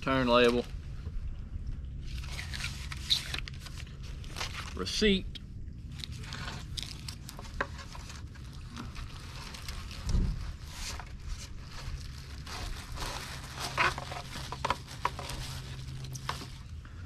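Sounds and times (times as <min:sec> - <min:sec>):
low steady hum: 0:00.0 - 0:17.0
plastic wrap scraping and crinkling: 0:02.0 - 0:05.0, 0:05.9 - 0:16.8.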